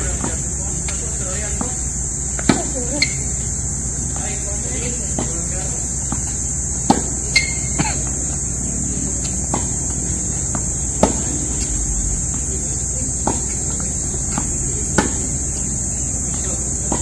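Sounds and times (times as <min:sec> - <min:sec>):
tennis racket striking ball: 0:00.0 - 0:04.4, 0:05.1 - 0:08.6, 0:09.2 - 0:11.7, 0:12.3 - 0:17.0
high-pitched insect drone: 0:00.0 - 0:17.0
tennis ball bouncing: 0:00.0 - 0:17.0.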